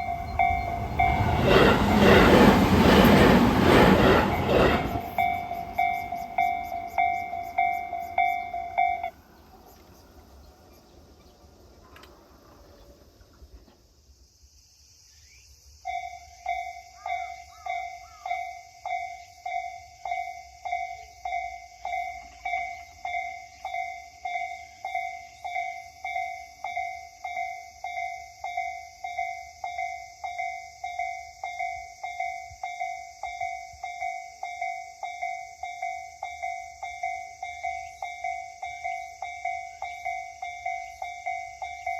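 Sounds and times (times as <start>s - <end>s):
level crossing warning bell: 0.0s - 9.9s, 15.9s - 41.9s.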